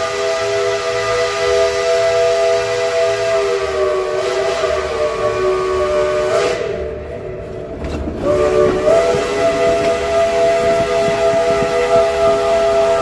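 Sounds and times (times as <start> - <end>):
steam locomotive chime whistle: 0.0 - 13.0.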